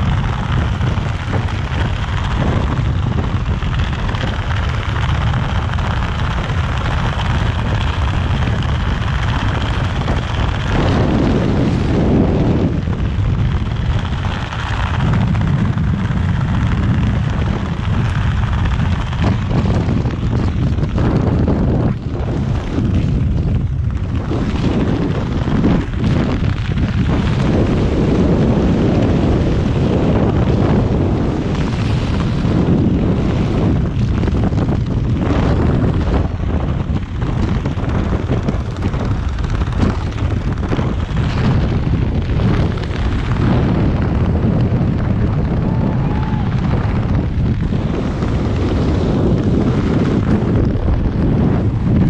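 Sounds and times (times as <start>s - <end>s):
wind rushing against microphone: 0.0s - 52.0s.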